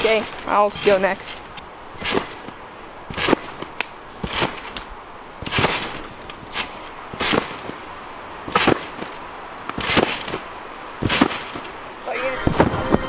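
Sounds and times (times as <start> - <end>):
trampoline swishing thumps: 0.0 - 13.0.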